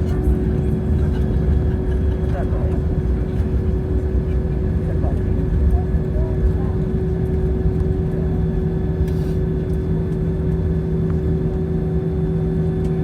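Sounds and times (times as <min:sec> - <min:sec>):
aircraft engines humming: 0:00.0 - 0:13.0.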